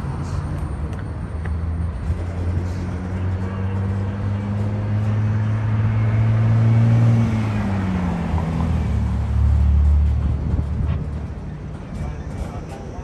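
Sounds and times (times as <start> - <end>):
diesel locomotive engine droning: 0.0 - 13.0.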